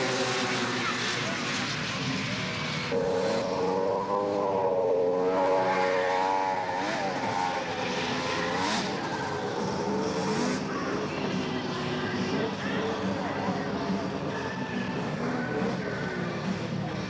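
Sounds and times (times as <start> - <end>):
snowmobile engines revving: 0.0 - 17.0.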